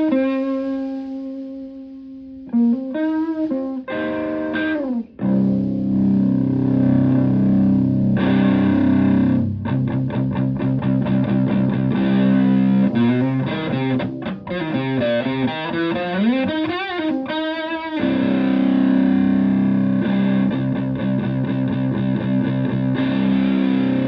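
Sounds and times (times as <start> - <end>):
fuzz electric guitar: 0.0 - 24.0.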